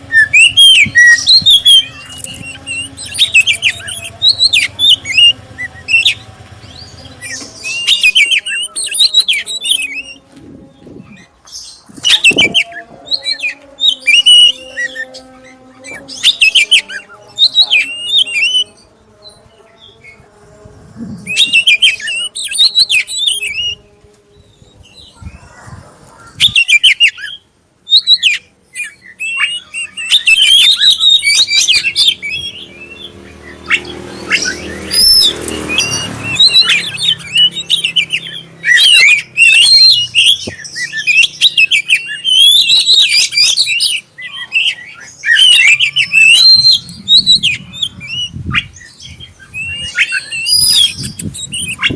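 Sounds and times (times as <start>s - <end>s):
bird singing whistles and chatter: 0.0s - 18.8s, 21.0s - 23.8s, 24.4s - 51.9s.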